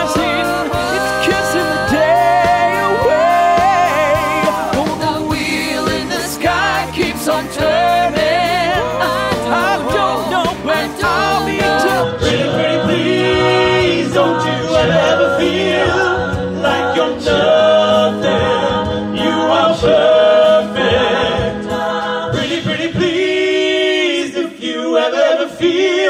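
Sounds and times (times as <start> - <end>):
music beat: 0.0 - 23.6
male a cappella group singing: 0.0 - 26.0.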